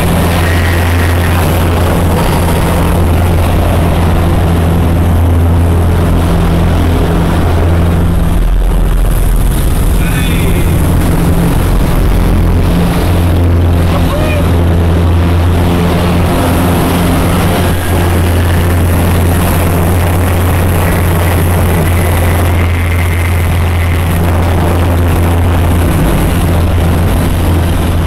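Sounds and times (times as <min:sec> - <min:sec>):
light aircraft engine droning: 0:00.0 - 0:28.0.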